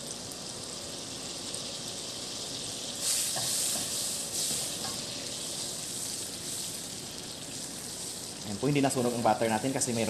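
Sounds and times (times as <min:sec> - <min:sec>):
butter sizzling in oil: 0:00.0 - 0:10.0.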